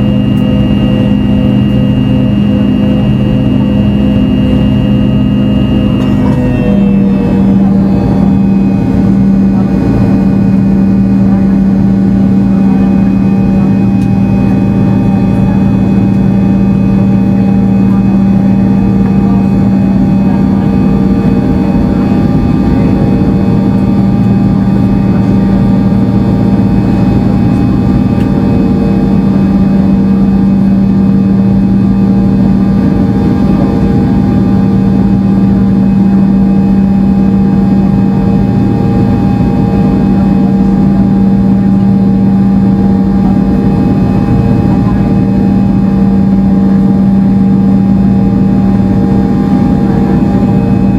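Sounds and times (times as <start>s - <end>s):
jet engines running at high power: 0.0s - 50.9s.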